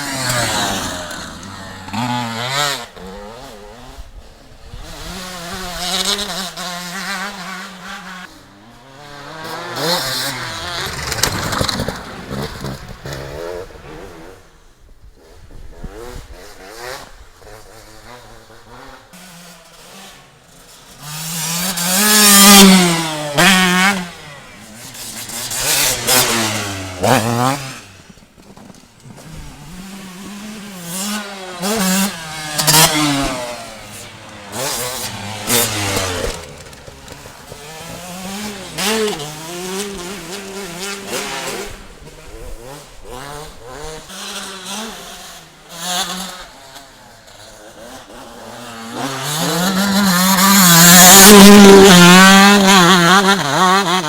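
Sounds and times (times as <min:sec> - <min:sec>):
motocross bikes revving and passing: 0:00.0 - 0:54.0.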